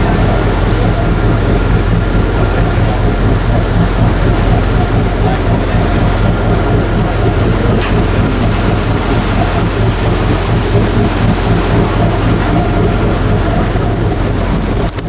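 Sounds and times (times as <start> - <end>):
boat engine humming: 0.0 - 15.0
wind on microphone: 0.0 - 15.0.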